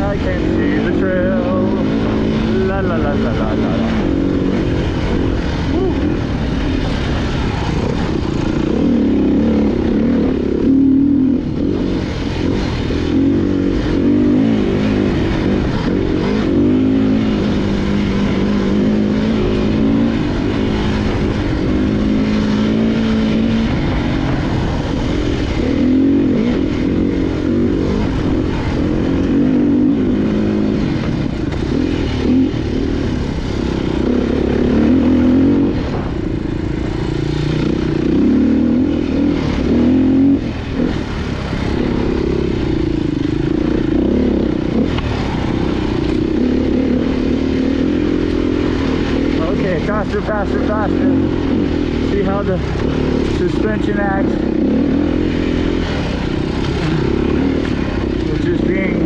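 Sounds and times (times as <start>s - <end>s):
off-road motorcycle engine revving: 0.0s - 59.0s.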